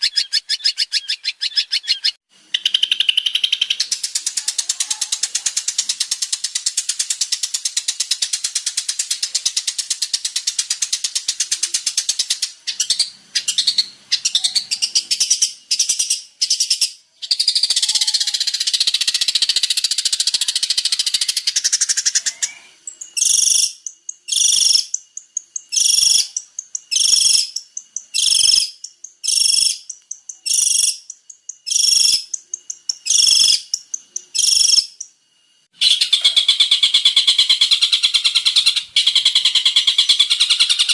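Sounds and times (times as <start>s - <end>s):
shrike singing: 0.0s - 40.9s.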